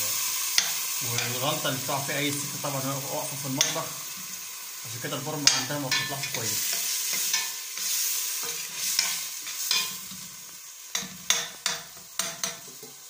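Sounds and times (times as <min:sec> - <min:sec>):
onions sizzling in a pot: 0:00.0 - 0:13.0.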